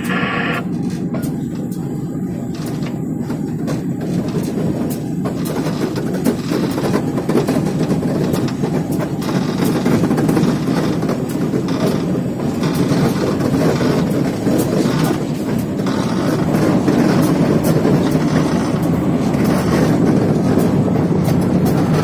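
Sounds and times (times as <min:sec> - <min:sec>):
locomotive running rumble: 0:00.0 - 0:22.0
wheels clicking over rails: 0:00.0 - 0:22.0.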